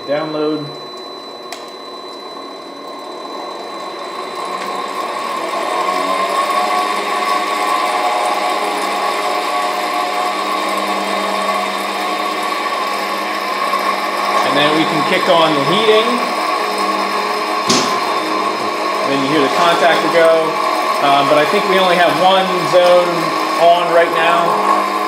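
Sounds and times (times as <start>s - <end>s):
motor hum and whine: 0.0s - 25.0s.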